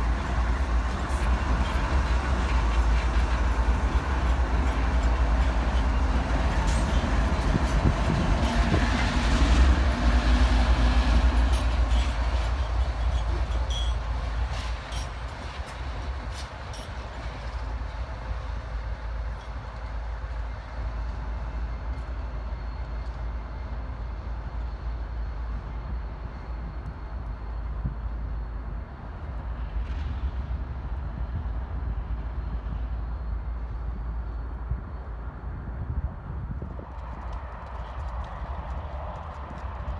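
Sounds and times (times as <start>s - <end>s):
train rolling past: 0.0s - 39.9s.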